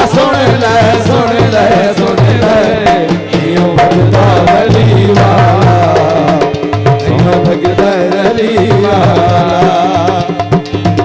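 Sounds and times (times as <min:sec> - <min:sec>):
hand drum beat: 0:00.0 - 0:11.0.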